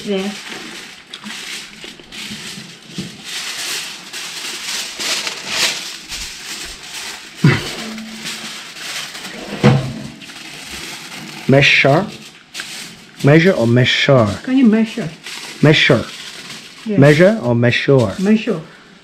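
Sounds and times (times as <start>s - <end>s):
aluminium foil crinkling: 0.0s - 18.8s.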